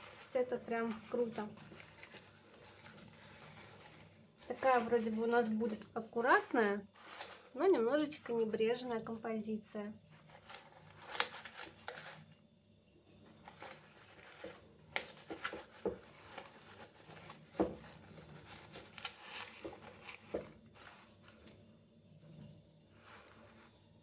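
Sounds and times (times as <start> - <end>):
flower stems rustling and clicking: 0.0 - 9.1, 10.1 - 12.3, 13.3 - 21.6.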